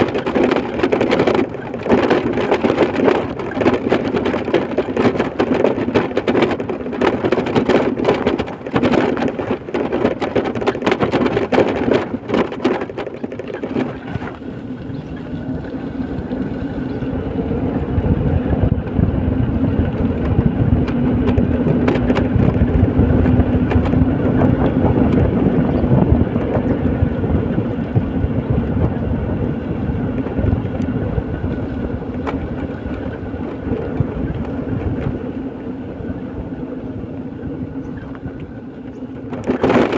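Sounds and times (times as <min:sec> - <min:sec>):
vehicle rattling and knocking: 0:00.0 - 0:35.6, 0:37.5 - 0:39.9
engine and tyre drone: 0:00.0 - 0:39.9.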